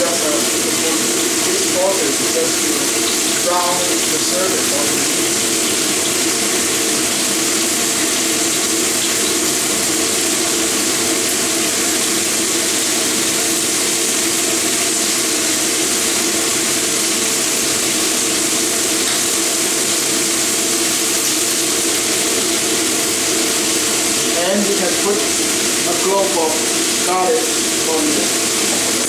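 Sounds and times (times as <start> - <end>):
chicken sizzling in a frying pan: 0.0 - 29.0.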